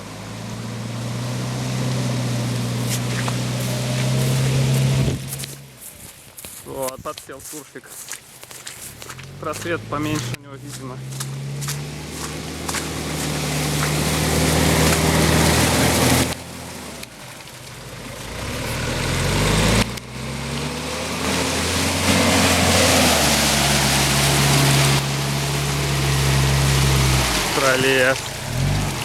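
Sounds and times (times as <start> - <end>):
engine revving hard: 0.0 - 5.6, 9.4 - 16.4, 18.3 - 29.0
tyres spinning in mud: 0.0 - 29.0.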